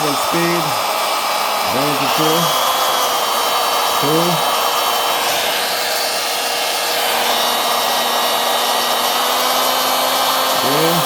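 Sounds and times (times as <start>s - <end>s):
oscillating multi-tool motor hum: 0.0s - 11.0s.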